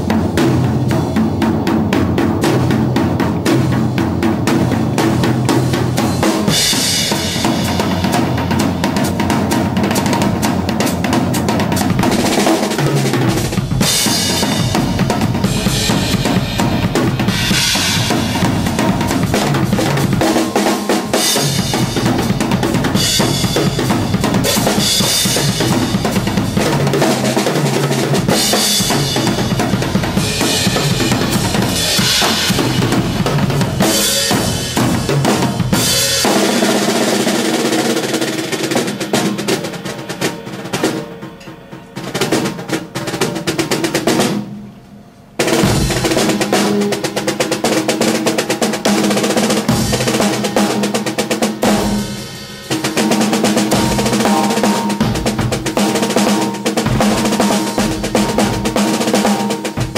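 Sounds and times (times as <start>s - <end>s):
bass drum and snare playing: 0.0s - 44.8s, 45.4s - 59.9s
cymbal crashes: 4.6s - 44.7s, 49.6s - 58.9s.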